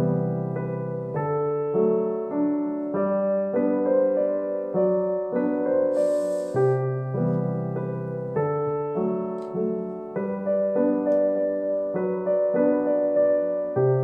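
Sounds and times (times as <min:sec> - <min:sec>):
piano playing notes and chords: 0:00.0 - 0:14.0.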